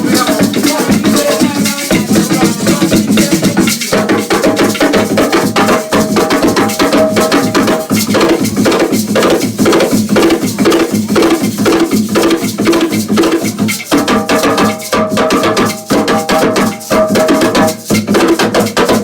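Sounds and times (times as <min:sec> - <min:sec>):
fast hand drumming: 0:00.0 - 0:19.0.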